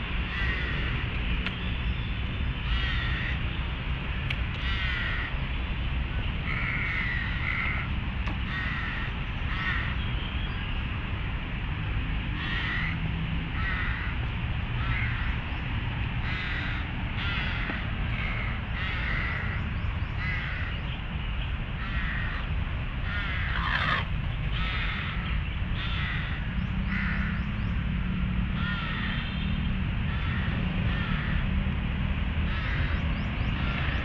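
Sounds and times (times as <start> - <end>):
birds harsh calls: 0.2 - 3.7, 4.5 - 5.5, 6.1 - 10.8, 12.4 - 27.9, 28.5 - 31.6, 32.4 - 34.0.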